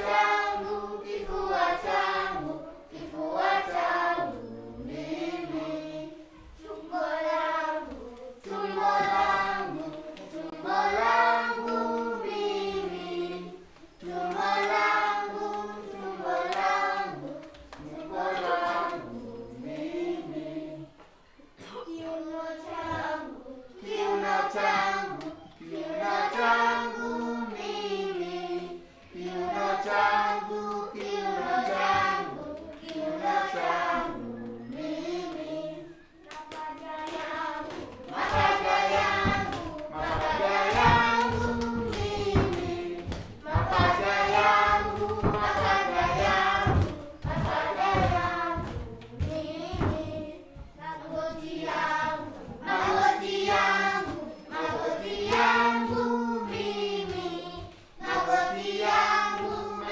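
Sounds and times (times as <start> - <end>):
children singing in unison: 0.0 - 59.9
rhythmic knocking beat: 6.8 - 20.5, 22.6 - 35.7, 36.4 - 59.9.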